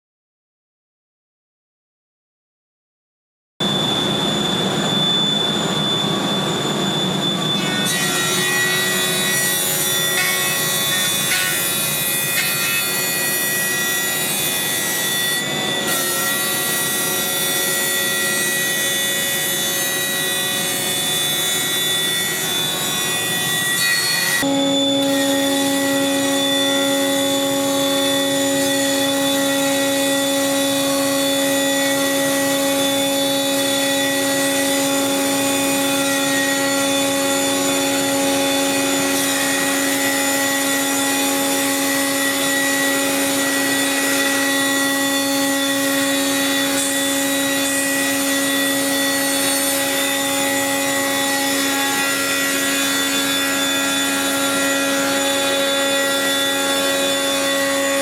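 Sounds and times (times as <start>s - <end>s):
planer cutterheads whining: 4.0s - 58.0s.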